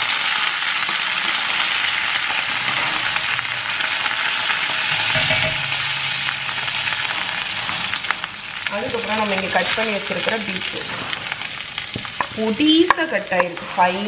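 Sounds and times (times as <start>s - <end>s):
leaves sizzling in hot oil: 0.0s - 14.0s.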